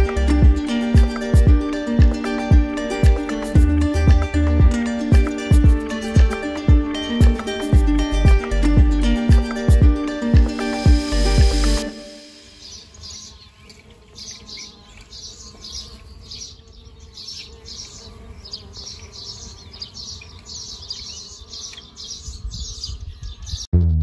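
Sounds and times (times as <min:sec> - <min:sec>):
small songbirds chirping: 0:00.0 - 0:23.7.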